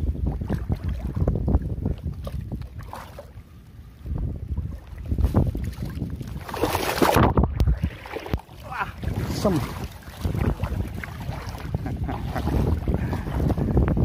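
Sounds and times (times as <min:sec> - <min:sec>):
river water lapping: 0:00.0 - 0:14.0
wind buffeting microphone: 0:00.0 - 0:14.0.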